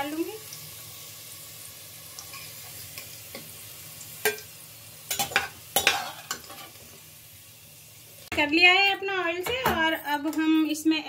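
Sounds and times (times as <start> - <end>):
onions sizzling in oil: 0.0 - 9.5.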